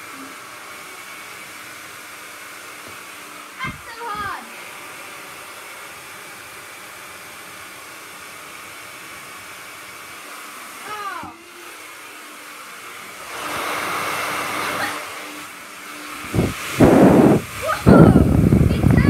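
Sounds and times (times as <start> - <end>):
hair dryer whirring: 0.0 - 19.0.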